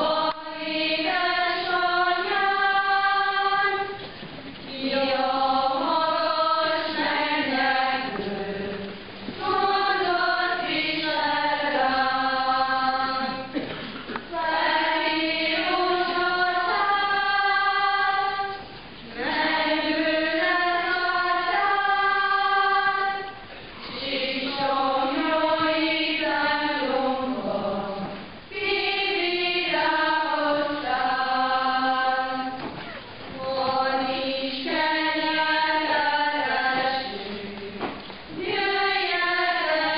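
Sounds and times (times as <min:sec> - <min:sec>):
group singing in unison: 0:00.0 - 0:39.9.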